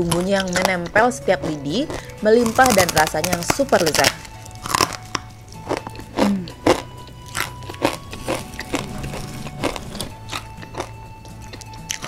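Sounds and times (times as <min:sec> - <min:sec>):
crunchy snack chewing: 0:00.0 - 0:12.0.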